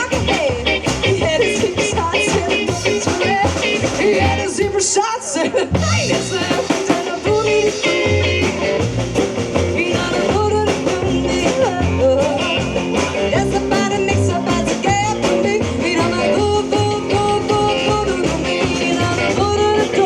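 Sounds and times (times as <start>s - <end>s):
person singing: 0.0s - 8.8s, 9.5s - 20.0s
rockabilly song with guitar: 0.0s - 20.0s.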